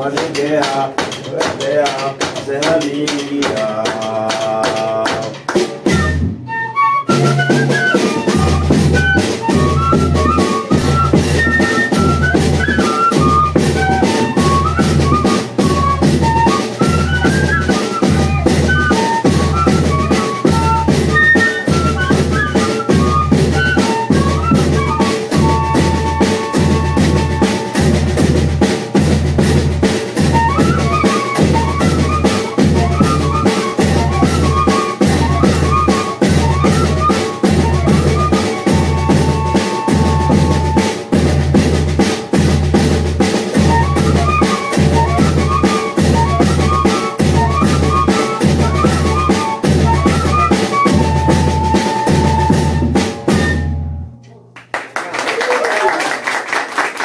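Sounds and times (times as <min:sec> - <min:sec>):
snare and cymbals: 0:00.0 - 0:53.8
fife melody: 0:05.7 - 0:54.4
bass drum beat: 0:07.2 - 0:53.6.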